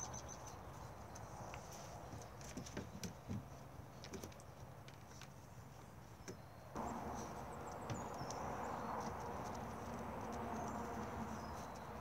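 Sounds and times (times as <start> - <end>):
puppies scuffling on grass: 0.5 - 6.1, 6.8 - 12.0.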